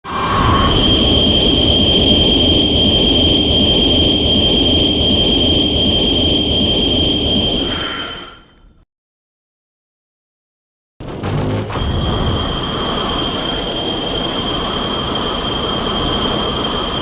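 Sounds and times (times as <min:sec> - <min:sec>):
high whine: 0:00.0 - 0:08.7, 0:11.3 - 0:17.0.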